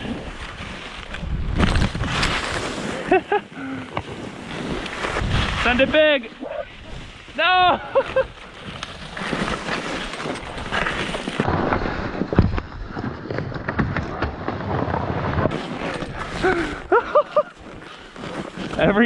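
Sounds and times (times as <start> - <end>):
skis scraping through snow: 0.0 - 13.2, 14.4 - 19.0.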